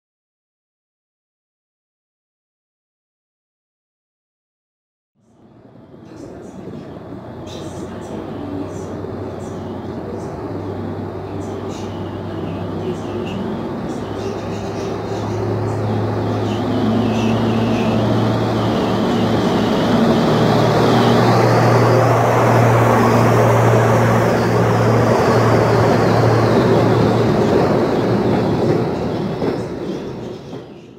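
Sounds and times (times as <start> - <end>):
diesel locomotive engine hum: 5.2 - 30.9
carriages rolling by: 5.9 - 30.9.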